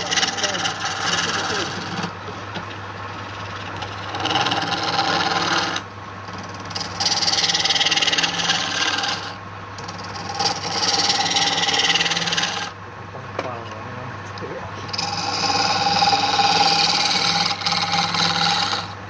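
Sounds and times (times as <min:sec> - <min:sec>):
tool hissing on spinning wood: 0:00.0 - 0:02.2, 0:03.1 - 0:12.8, 0:14.9 - 0:19.0
lathe motor hum: 0:00.0 - 0:12.8, 0:14.8 - 0:19.0.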